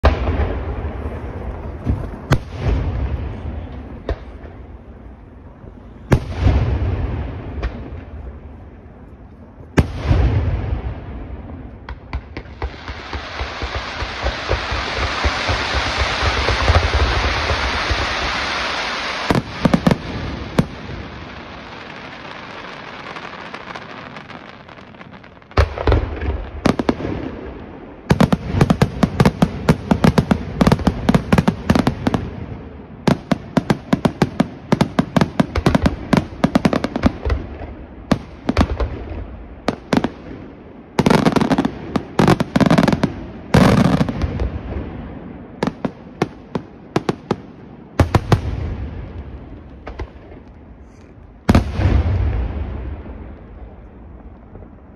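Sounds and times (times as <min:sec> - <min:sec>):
fireworks hissing and crackling: 0:00.0 - 0:54.9.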